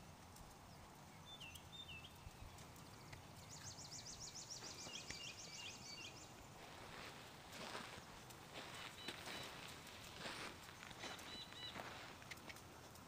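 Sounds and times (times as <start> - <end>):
songbirds whistling and trilling: 0.7 - 12.6.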